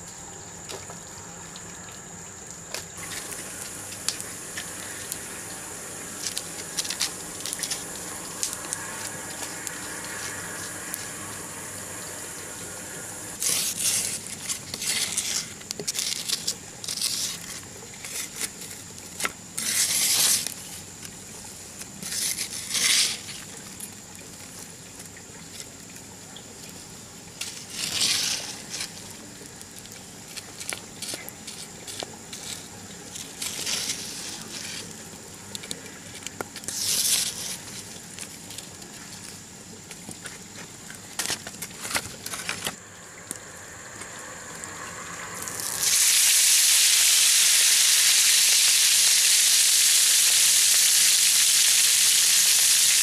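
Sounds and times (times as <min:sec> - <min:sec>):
campfire crackling and popping: 0:02.4 - 0:12.4, 0:13.3 - 0:53.0.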